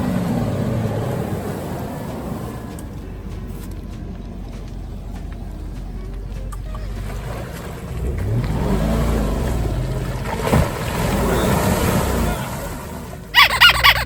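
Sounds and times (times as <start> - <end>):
off-road engine revving: 0.0 - 14.0.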